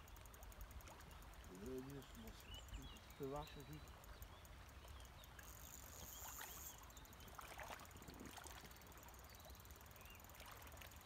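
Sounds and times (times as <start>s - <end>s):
faint chirps and ticks: 0.0s - 11.0s.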